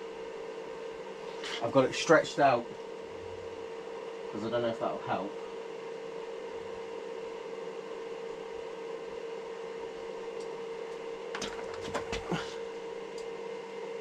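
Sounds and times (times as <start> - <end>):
welder humming: 0.0 - 14.0.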